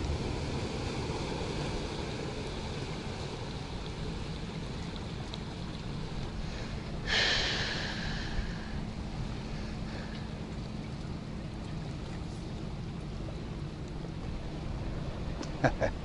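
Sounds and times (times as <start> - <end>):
motorboat engine humming: 0.0 - 16.0
water noise: 0.0 - 16.0
wind: 0.0 - 16.0.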